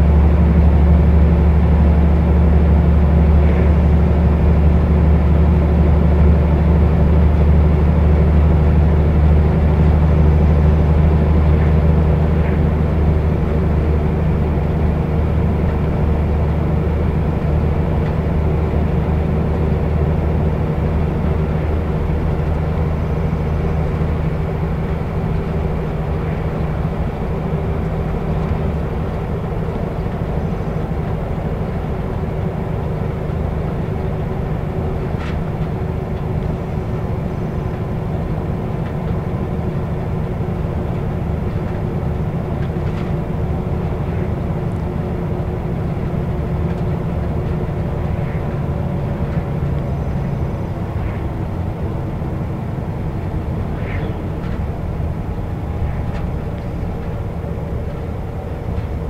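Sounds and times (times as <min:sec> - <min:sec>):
diesel coach engine running: 0:00.0 - 0:59.0
road noise: 0:00.0 - 0:59.0.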